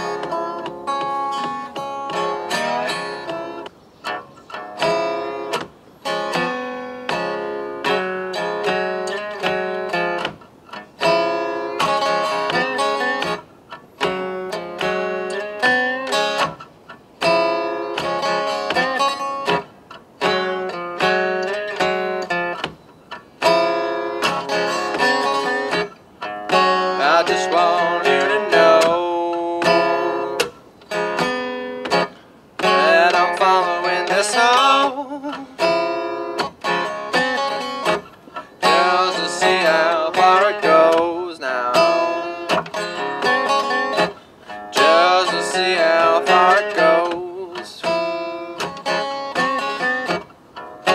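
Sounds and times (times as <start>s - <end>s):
fingerpicked resonator guitar: 0.0s - 50.9s.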